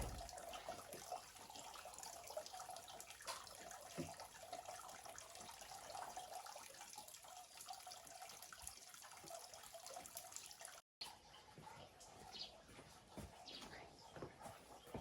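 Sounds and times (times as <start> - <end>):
faint steady water noise: 0.0 - 15.0.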